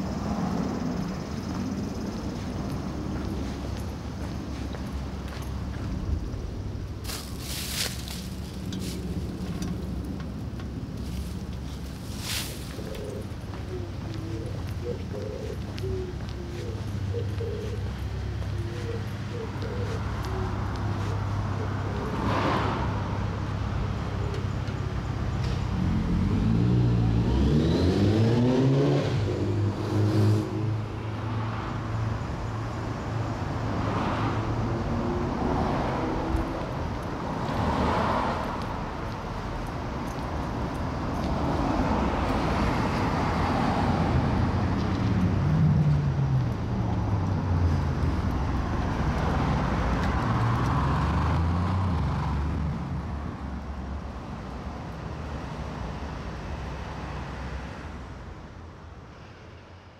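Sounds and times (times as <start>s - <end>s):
car engines running: 0.0s - 58.4s
vehicles passing: 0.0s - 59.9s.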